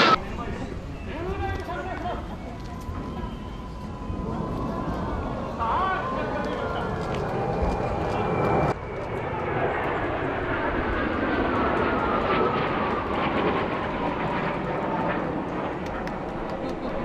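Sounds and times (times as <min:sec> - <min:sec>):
jets flying overhead: 0:00.0 - 0:17.0.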